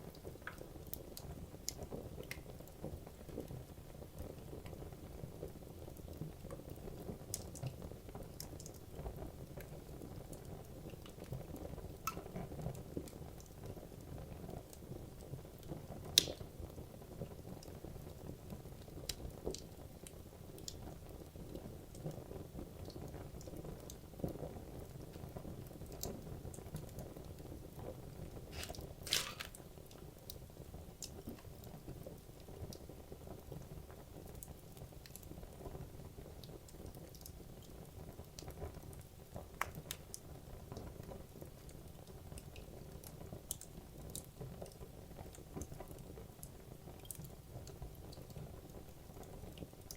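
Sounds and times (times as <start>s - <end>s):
wood crackling and popping: 0.0s - 49.9s.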